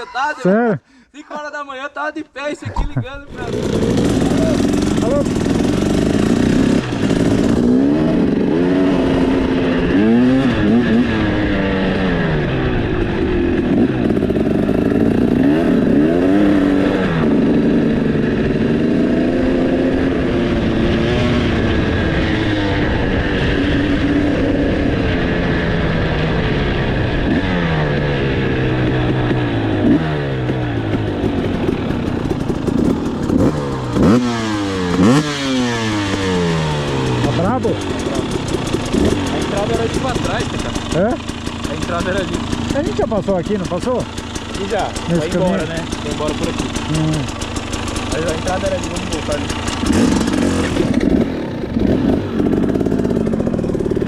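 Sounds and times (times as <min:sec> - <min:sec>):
two-stroke motorcycle engine revving: 0:03.3 - 0:54.0.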